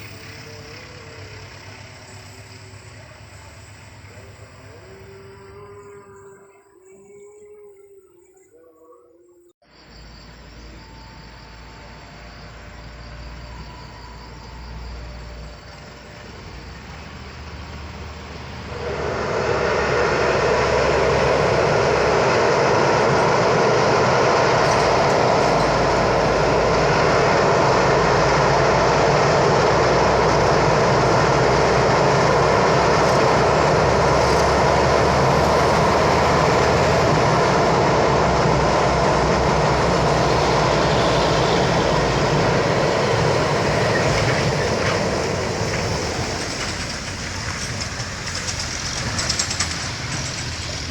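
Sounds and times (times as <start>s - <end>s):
train rumbling and clattering past: 0.0s - 7.7s, 9.7s - 50.9s.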